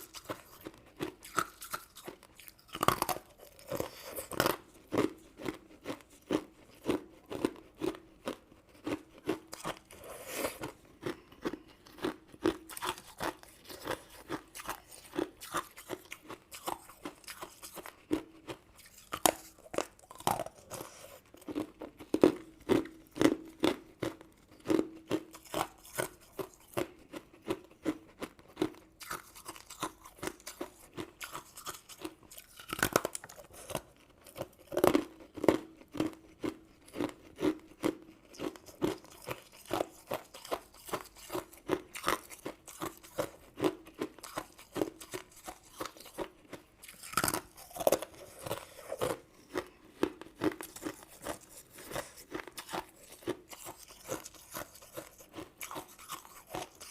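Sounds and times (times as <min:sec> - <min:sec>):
chewing crunchy sweets: 0:00.0 - 0:56.9.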